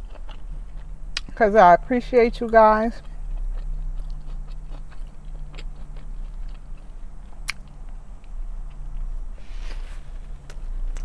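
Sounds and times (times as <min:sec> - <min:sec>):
chewing and biting: 0:00.0 - 0:01.4, 0:02.5 - 0:11.0
steady low hum: 0:00.0 - 0:11.0.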